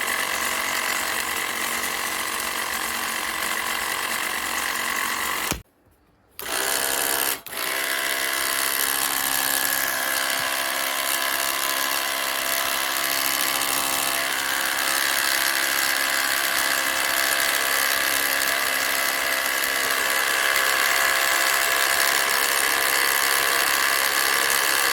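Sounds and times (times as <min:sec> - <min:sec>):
reel lawn mower whirring: 0:00.0 - 0:05.6, 0:06.4 - 0:24.9.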